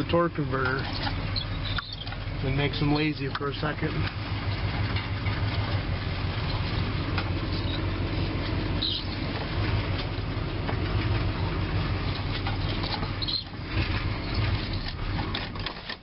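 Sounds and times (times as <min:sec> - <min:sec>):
truck engine running at low speed: 0:00.0 - 0:16.0.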